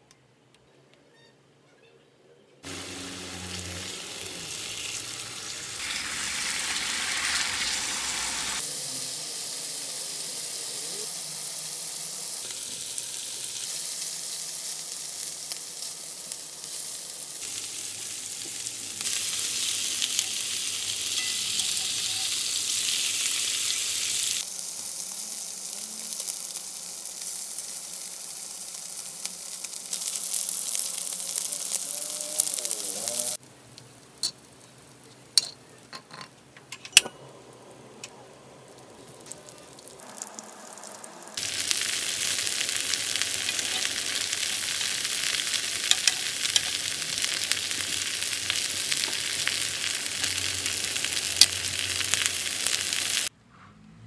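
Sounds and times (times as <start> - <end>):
meat sizzling on griddle: 2.6 - 33.4, 37.6 - 53.3.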